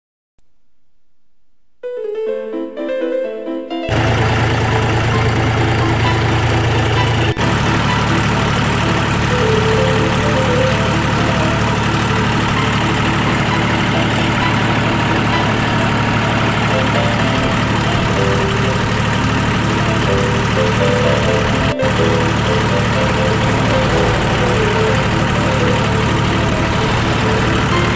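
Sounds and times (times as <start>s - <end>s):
tractor engine running: 3.9s - 27.9s.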